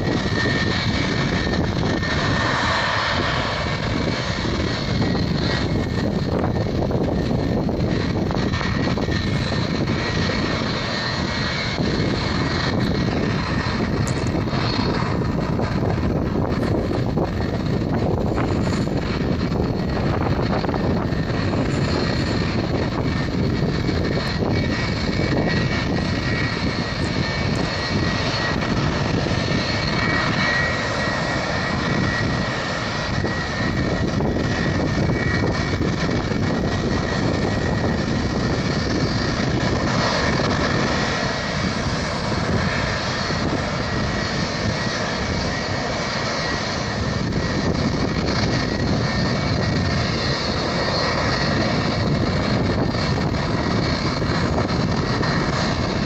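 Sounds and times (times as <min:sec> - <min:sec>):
high-pitched engine whine: 0:00.0 - 0:56.0
jet engines rumbling: 0:00.0 - 0:56.0.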